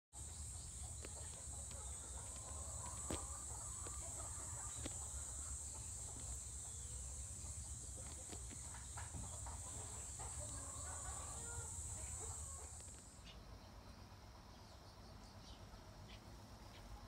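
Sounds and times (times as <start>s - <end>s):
high-pitched insect chorus: 0.2s - 14.2s.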